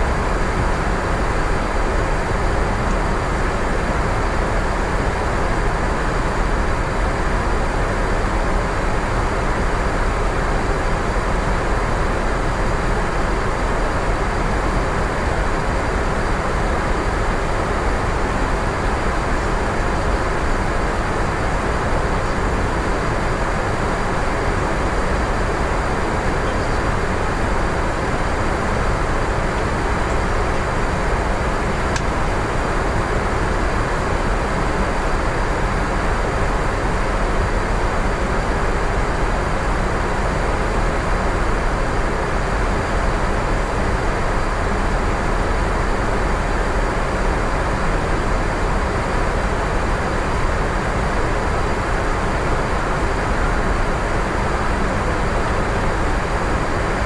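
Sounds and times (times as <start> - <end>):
airflow and engine roar: 0.0 - 57.0.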